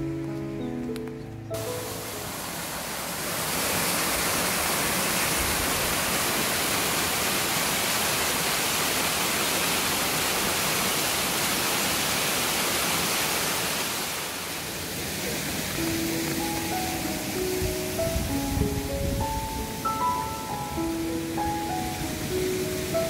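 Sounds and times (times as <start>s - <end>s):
waterfall rushing: 1.5s - 23.0s.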